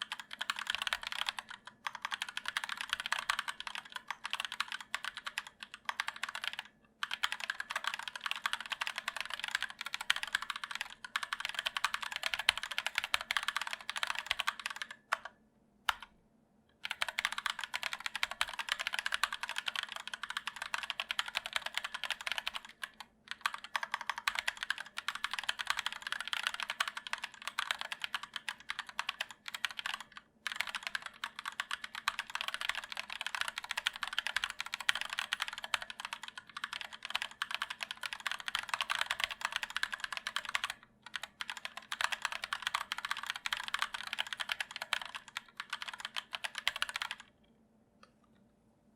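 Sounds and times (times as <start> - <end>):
mechanical keyboard typing: 0.0 - 16.1, 16.8 - 47.3.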